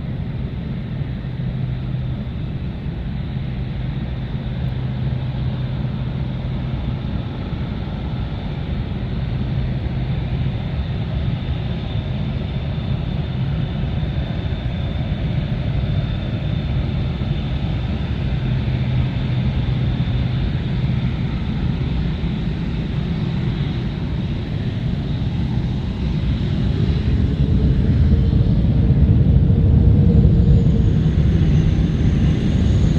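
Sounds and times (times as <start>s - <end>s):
jet engines rumbling and whining: 0.0s - 32.9s.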